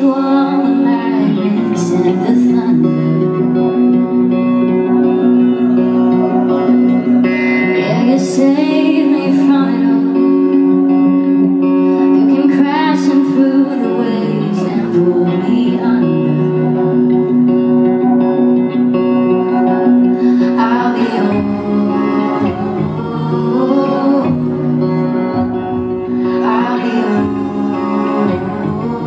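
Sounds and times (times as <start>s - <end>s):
woman singing: 0.0s - 4.7s, 6.4s - 17.7s, 20.0s - 29.0s
electric guitar chords: 0.0s - 29.0s.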